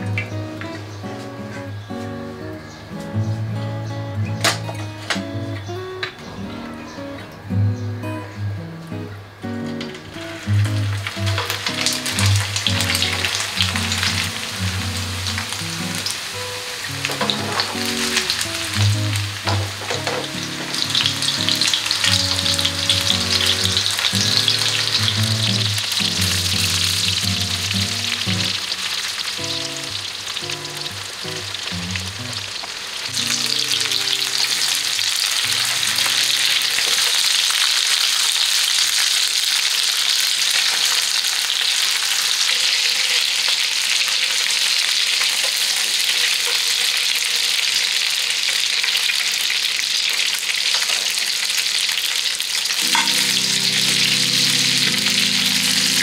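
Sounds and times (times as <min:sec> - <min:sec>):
meatballs sizzling in oil: 0:10.4 - 0:56.0.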